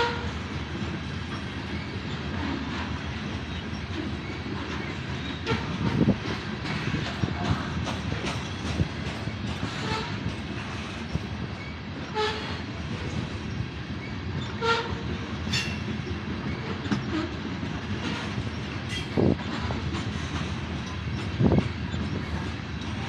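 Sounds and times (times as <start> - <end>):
clicks and clanks at rail joints: 0.0 - 23.0
train wheels rumbling on rail: 0.0 - 23.0.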